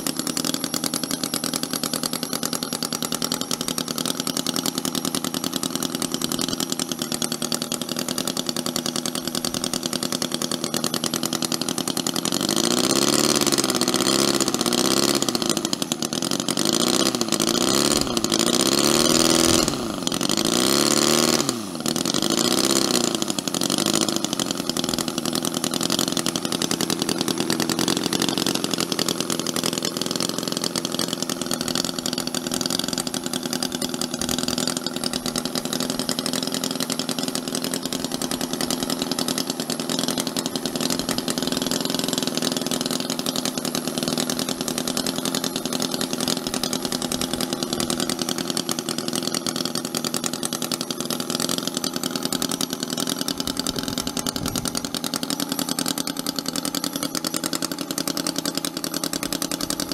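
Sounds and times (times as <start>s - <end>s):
model petrol engine running: 0.0s - 59.9s.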